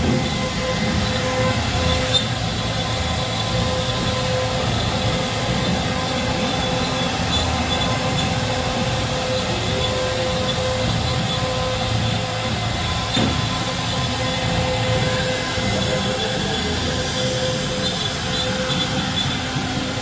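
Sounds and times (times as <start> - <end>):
router spindle whining while carving wood: 0.0 - 20.0.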